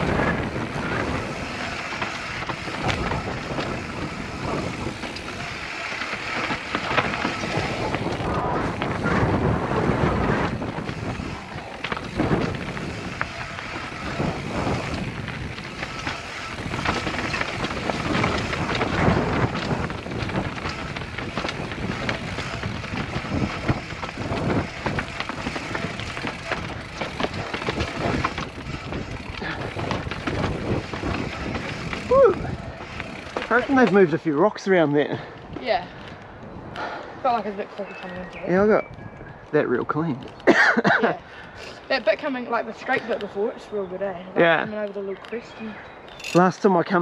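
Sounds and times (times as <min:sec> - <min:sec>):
wind rushing across microphone: 0:00.0 - 0:44.6
bike rattling over rough ground: 0:00.0 - 0:47.0
tyres on dirt and stones: 0:00.0 - 0:47.0.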